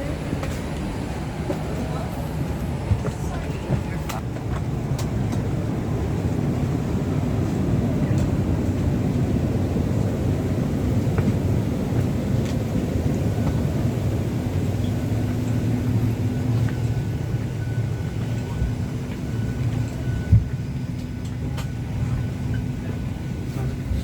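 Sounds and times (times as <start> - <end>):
airplane cabin hum and rumble: 0.0 - 24.0.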